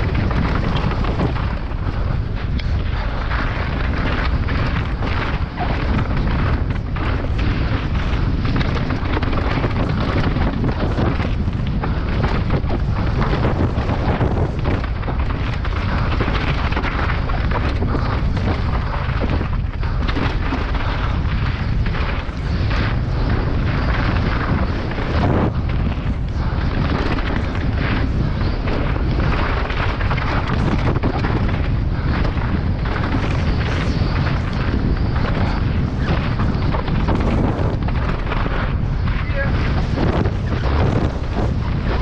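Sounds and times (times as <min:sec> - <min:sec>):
tyres rumbling on stones: 0:00.0 - 0:42.0
wind buffeting microphone: 0:00.0 - 0:42.0
bike clattering over rocks: 0:02.6 - 0:42.0.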